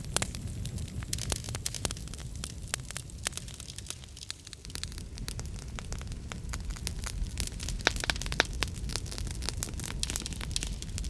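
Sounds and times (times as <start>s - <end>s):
fire popping: 0.0s - 11.0s
low rumble of flames: 0.0s - 11.0s
wood fire crackling: 0.0s - 11.0s.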